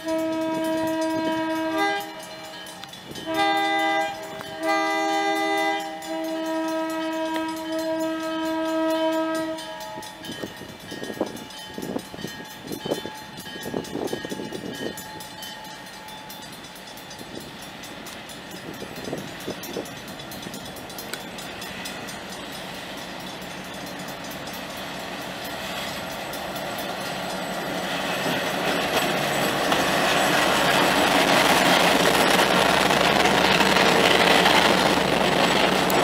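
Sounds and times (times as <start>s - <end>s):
diesel locomotive engine running: 0.0s - 36.0s
train wheels on rails: 0.0s - 36.0s.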